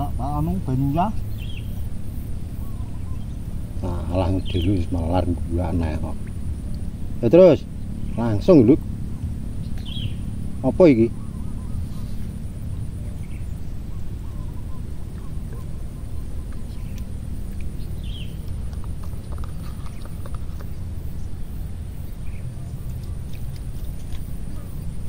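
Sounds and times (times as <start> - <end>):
faint bird chirps: 0.0 - 8.9, 9.5 - 25.0
steady low rumble: 0.0 - 25.0.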